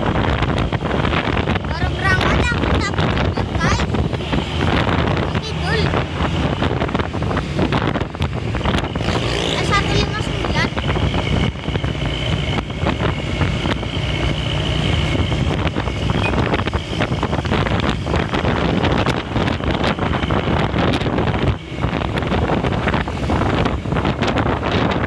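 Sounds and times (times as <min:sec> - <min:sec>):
bus engine and road noise: 0:00.0 - 0:25.0
wind buffeting microphone: 0:00.0 - 0:25.0.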